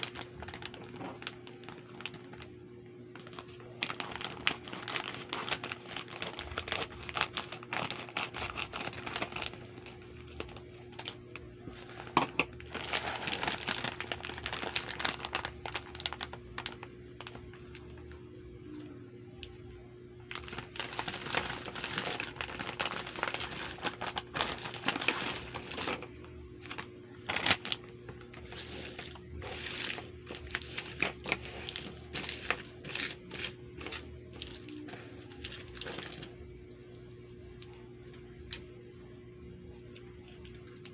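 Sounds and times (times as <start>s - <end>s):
candy wrappers crinkling: 0.0s - 18.1s, 20.2s - 36.8s
faint steady hum: 0.0s - 40.9s.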